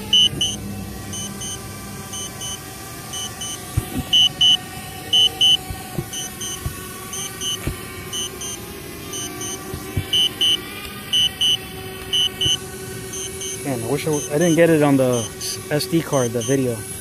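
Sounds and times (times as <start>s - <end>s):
high double beeps: 0.0s - 15.6s.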